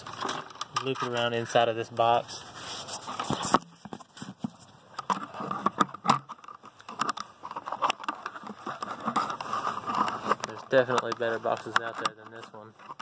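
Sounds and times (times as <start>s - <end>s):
hands handling cable in plastic box: 0.0s - 13.0s.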